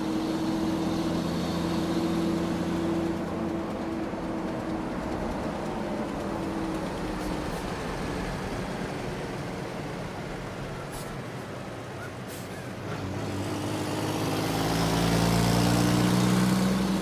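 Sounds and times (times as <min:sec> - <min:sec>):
large truck engine hum: 0:00.0 - 0:17.0
road noise: 0:00.0 - 0:17.0.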